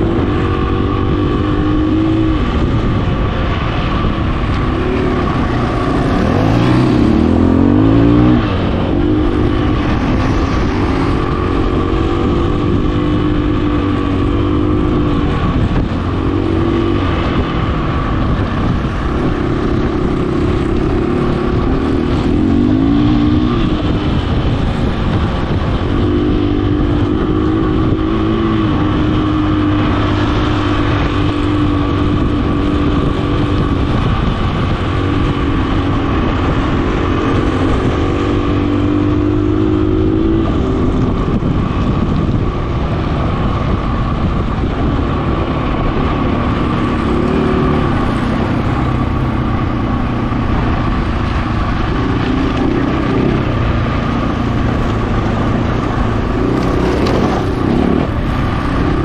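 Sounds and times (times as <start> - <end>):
steady rushing noise: 0.0 - 59.0
vehicle engine running: 0.0 - 59.0.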